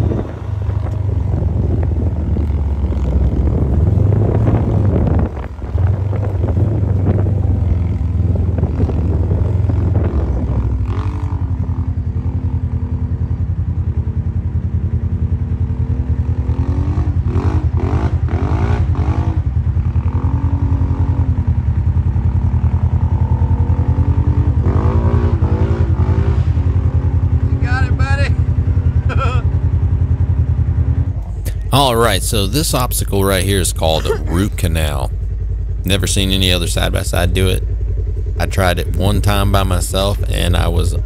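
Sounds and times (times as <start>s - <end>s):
utility vehicle engine running: 0.0s - 41.0s.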